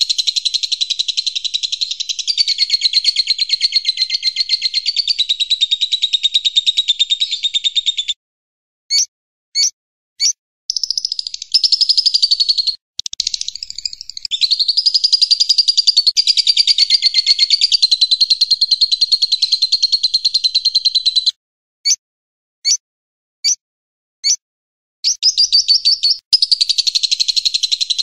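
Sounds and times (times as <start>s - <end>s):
songbird chirps and trill: 0.0s - 8.2s, 8.9s - 21.3s, 25.1s - 28.0s.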